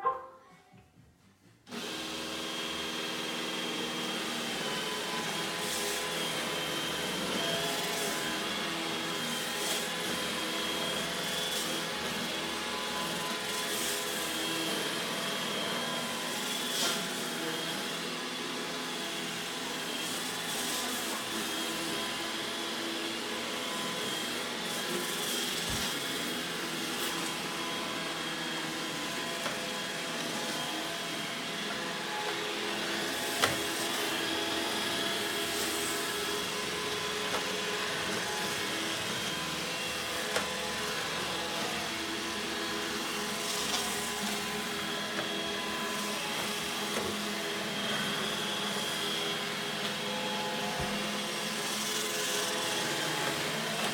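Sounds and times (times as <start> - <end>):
robot vacuum running: 1.7 - 53.9.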